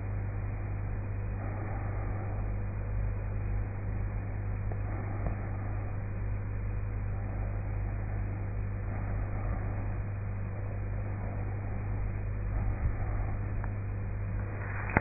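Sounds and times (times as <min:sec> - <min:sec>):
low hum: 0:00.0 - 0:15.0
constant hiss: 0:01.4 - 0:15.0.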